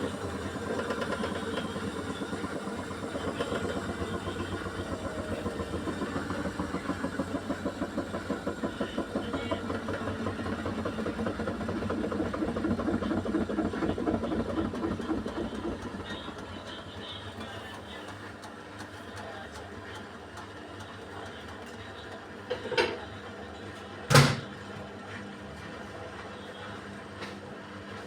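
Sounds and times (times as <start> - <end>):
washing machine drum spinning: 0.0 - 26.2.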